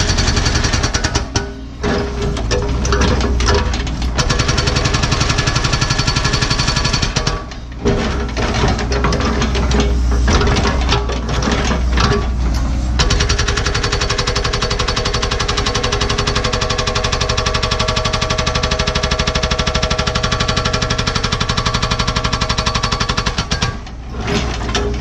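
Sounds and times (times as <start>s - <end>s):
hydraulic breaker hammering rock: 0.0s - 12.4s, 13.0s - 25.0s.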